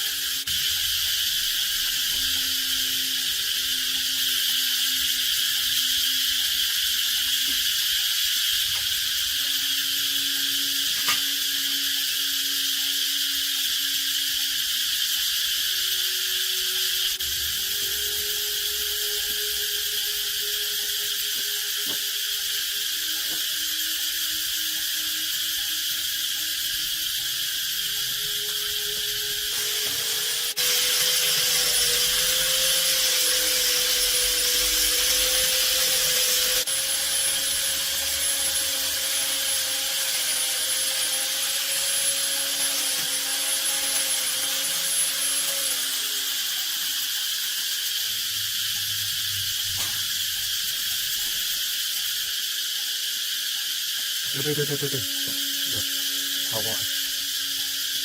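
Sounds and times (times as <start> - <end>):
insects chirring: 0.0 - 58.0
small electric motor whining: 0.0 - 58.0.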